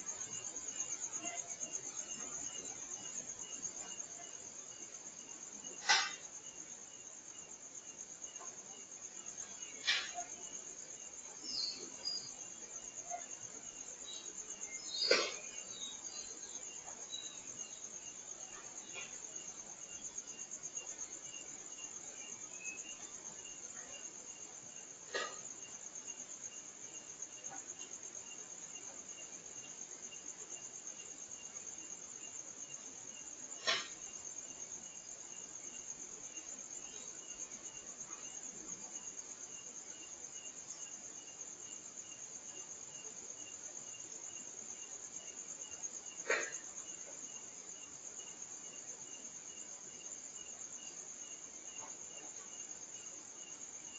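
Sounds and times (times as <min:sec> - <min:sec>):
crickets chirring: 0:00.0 - 0:53.9.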